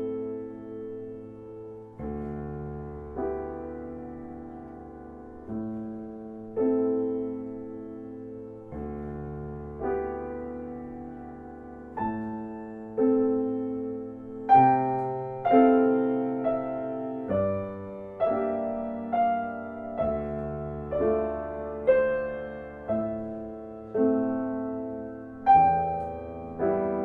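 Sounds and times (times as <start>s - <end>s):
slow gentle piano chords: 0.0s - 27.0s.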